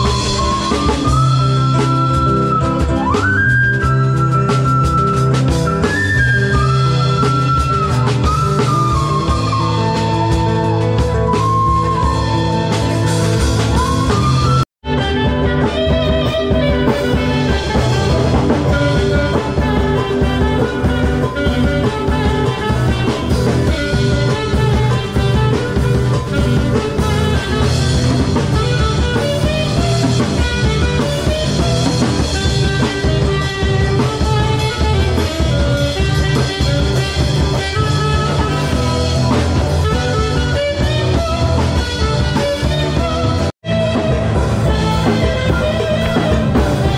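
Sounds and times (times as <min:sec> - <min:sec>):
music with guitar and drums: 0:00.0 - 0:46.9.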